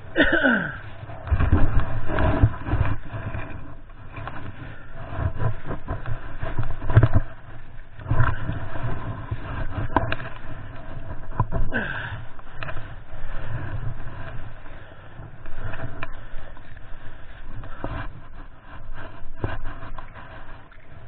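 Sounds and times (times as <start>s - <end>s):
low microphone rumbling: 0.0s - 21.0s
scraping in mud: 0.0s - 21.0s.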